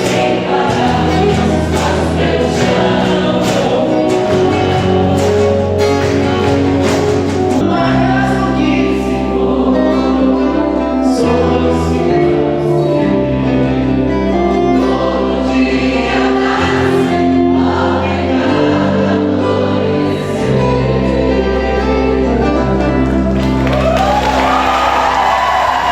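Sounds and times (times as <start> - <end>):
choir singing: 0.0 - 25.9.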